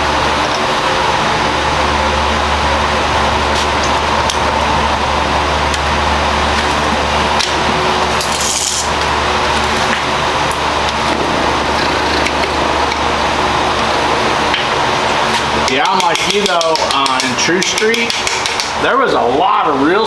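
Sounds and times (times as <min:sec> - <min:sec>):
machine droning: 0:00.0 - 0:20.0.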